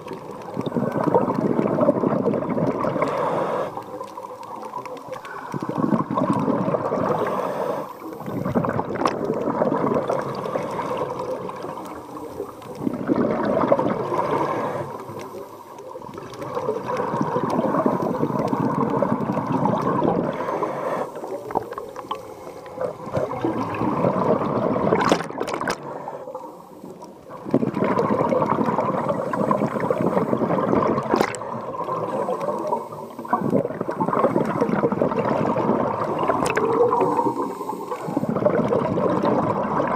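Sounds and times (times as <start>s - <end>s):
regulator exhaust bubbling underwater: 0.0s - 3.1s, 5.6s - 7.3s, 8.2s - 14.4s, 16.0s - 20.5s, 21.4s - 25.9s, 27.2s - 39.9s.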